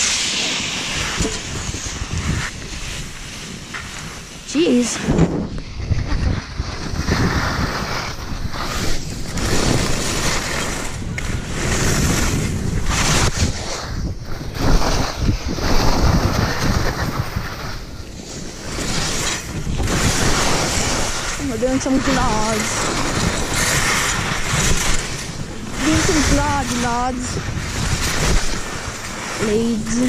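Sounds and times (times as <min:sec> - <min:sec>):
skis scraping on snow: 0:00.0 - 0:30.0
wind on microphone: 0:00.8 - 0:30.0.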